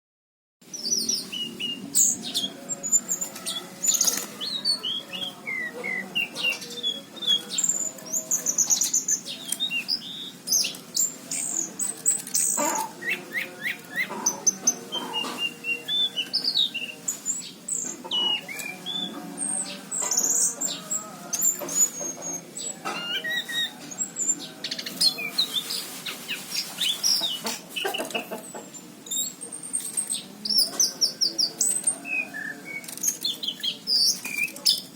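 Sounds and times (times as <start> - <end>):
thrush singing: 0.6 - 34.9.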